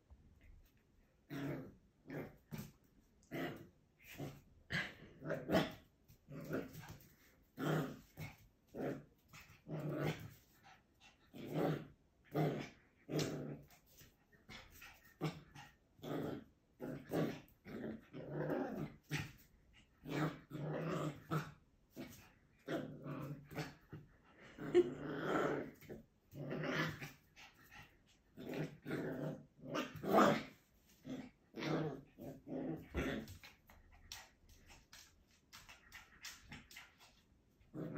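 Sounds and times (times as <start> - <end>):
puppy growling and yapping: 0.4 - 37.9.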